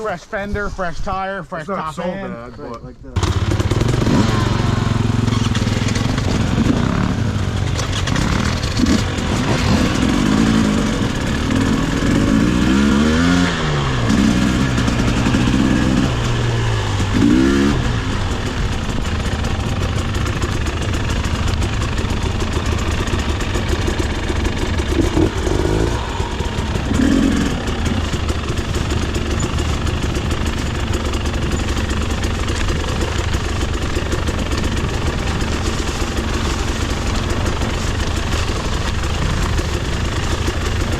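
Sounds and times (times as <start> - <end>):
dirt bike engines revving: 1.2 - 40.9.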